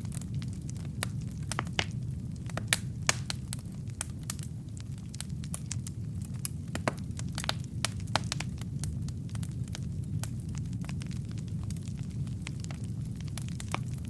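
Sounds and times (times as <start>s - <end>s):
fire crackling and popping: 0.0s - 14.0s
low rumble of flame: 0.0s - 14.0s.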